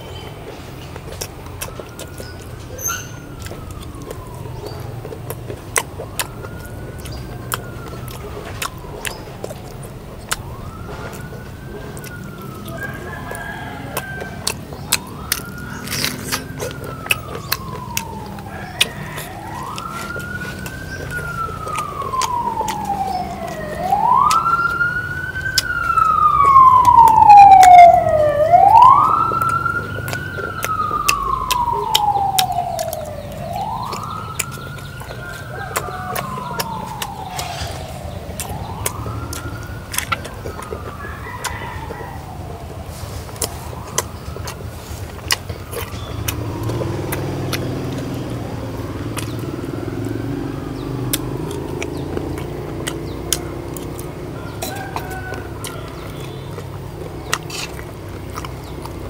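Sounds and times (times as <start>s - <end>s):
siren wailing: 0.0s - 59.0s.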